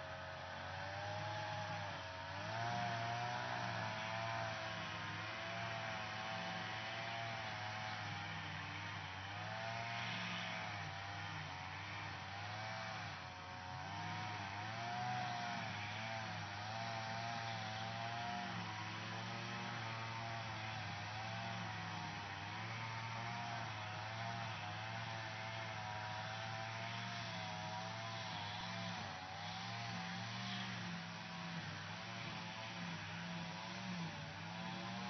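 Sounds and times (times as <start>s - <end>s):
lawn mower running: 0.0s - 35.0s.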